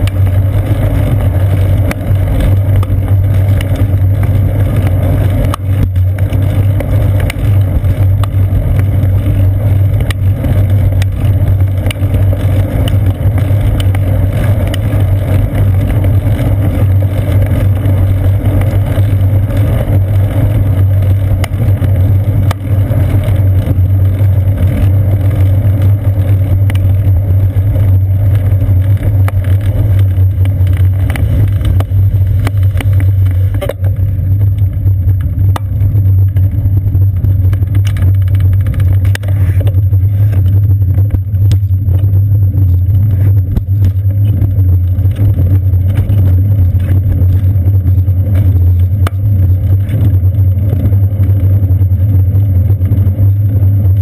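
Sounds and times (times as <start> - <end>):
wind and road rumble: 0.0 - 54.0.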